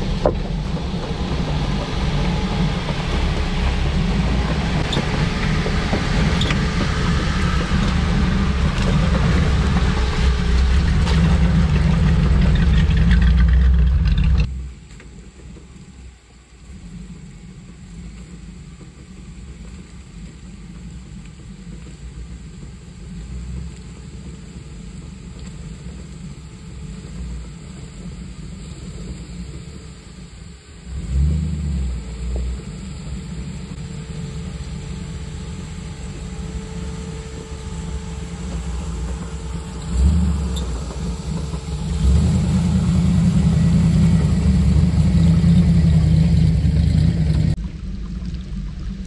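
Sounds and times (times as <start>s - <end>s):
jeep engine running slowly: 0.0s - 49.0s.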